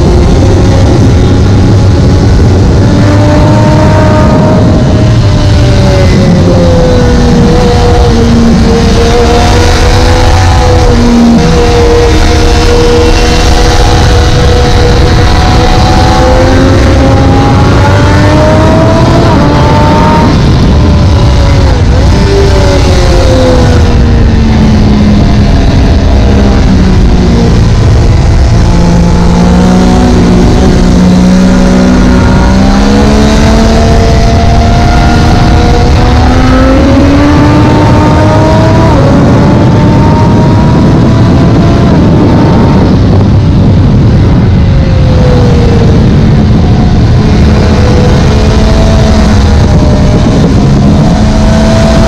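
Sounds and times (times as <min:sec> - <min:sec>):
motorcycle engine at speed: 0:00.0 - 0:52.0
wind rush on microphone: 0:00.0 - 0:52.0.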